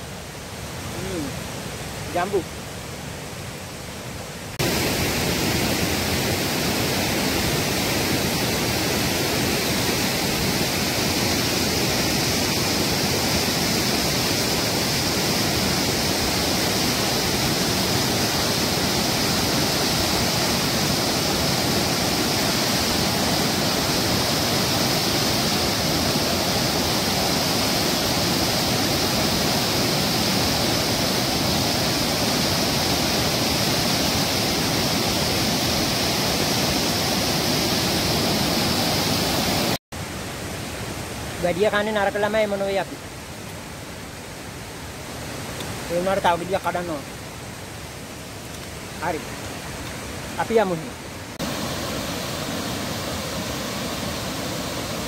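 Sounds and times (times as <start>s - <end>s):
white water rushing over rocks: 0.0s - 55.0s.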